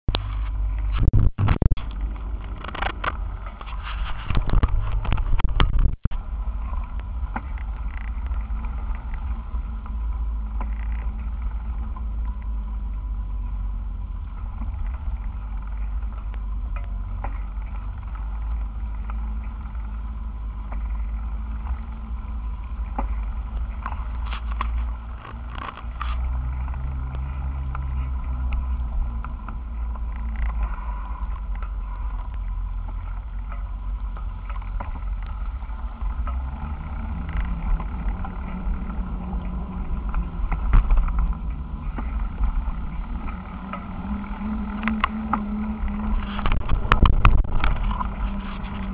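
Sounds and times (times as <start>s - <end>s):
wind and road rumble: 0.0s - 48.9s.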